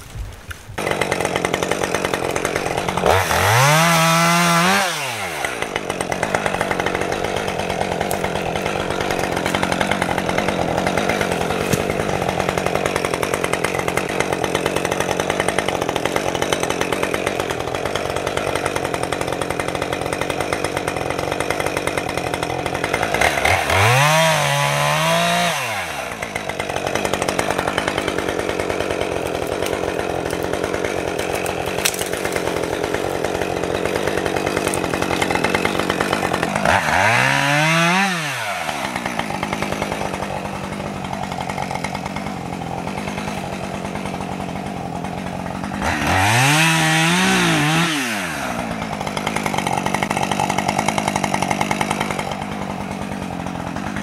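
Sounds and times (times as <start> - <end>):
chainsaw running and revving: 0.3 - 54.0.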